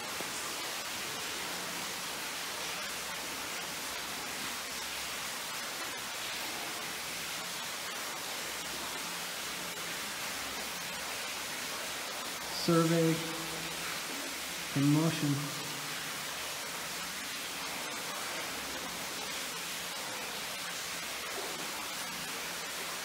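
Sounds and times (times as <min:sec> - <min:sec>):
steady underwater hiss: 0:00.0 - 0:23.0.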